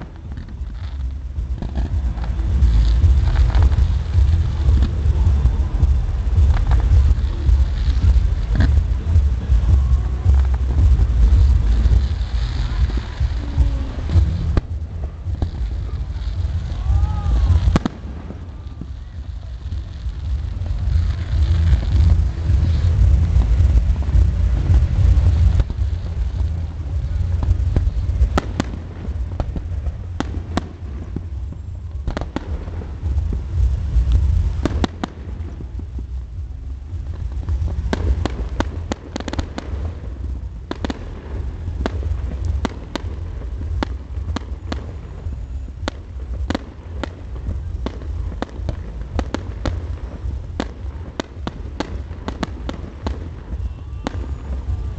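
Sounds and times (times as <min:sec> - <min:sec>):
fireworks bangs and crackles: 0:00.0 - 0:54.9
low rumble: 0:00.0 - 0:54.9.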